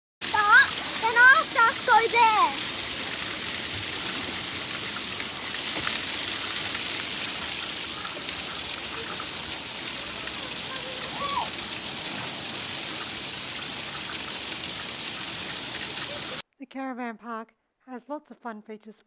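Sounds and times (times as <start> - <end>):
falling water splashing: 0.2 - 16.4.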